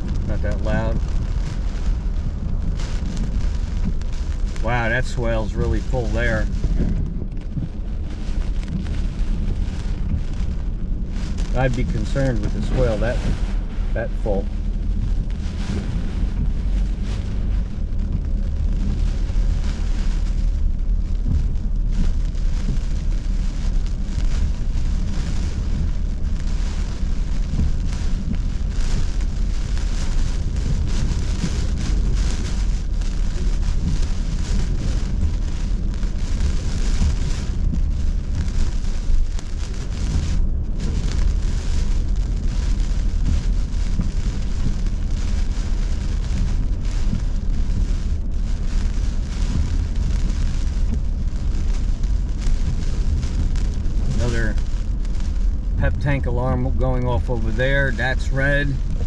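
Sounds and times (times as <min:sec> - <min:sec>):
car low rumble: 0:00.0 - 0:59.0
rain pelting car: 0:00.0 - 0:59.0.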